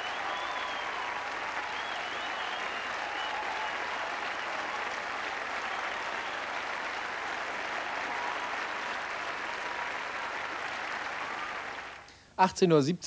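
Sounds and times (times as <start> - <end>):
stadium crowd applauding: 0.0 - 12.1.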